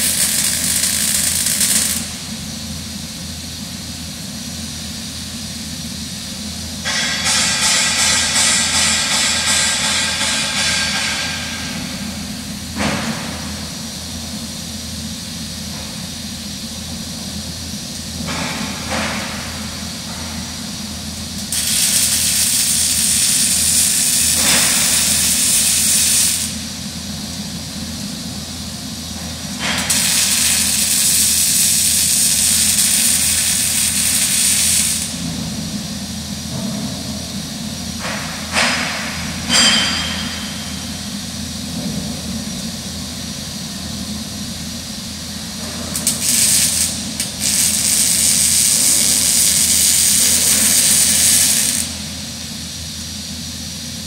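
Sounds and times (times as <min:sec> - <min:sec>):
low shop hum: 0:00.0 - 0:54.0
welding arc hissing and crackling: 0:00.0 - 0:54.0.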